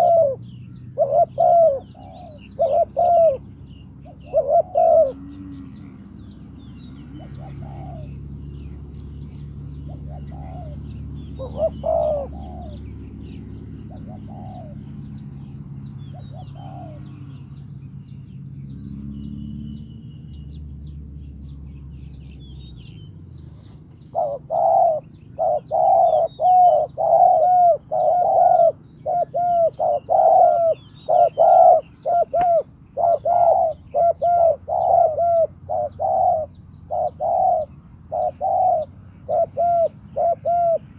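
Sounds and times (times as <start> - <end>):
doves cooing: 0.0 - 17.6, 23.4 - 40.9.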